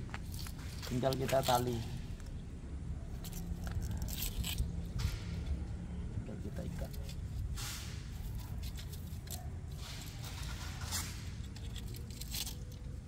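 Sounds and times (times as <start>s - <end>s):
rustling and scratching of string: 0.1s - 2.4s, 3.1s - 5.6s, 6.5s - 13.0s.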